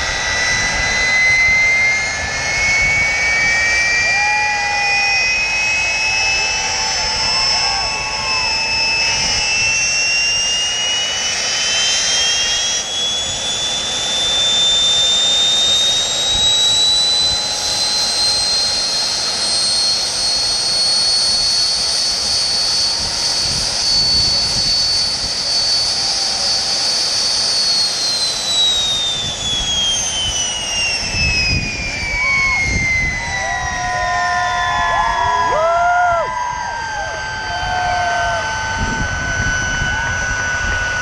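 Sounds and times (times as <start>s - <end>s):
jet engine whine: 0.0s - 41.0s.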